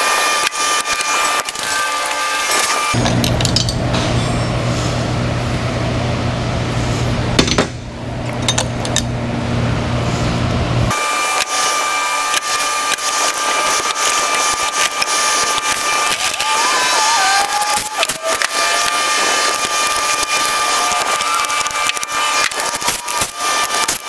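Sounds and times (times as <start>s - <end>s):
low machine hum: 2.9s - 23.8s.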